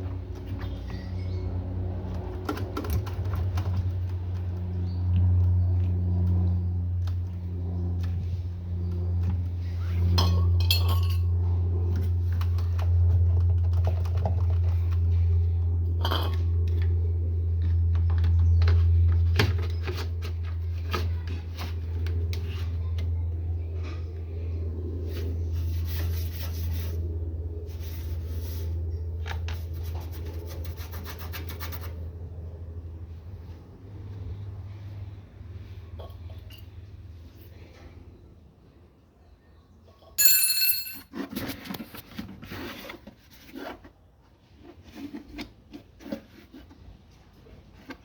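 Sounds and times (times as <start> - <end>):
steady low hum: 0.0 - 39.2.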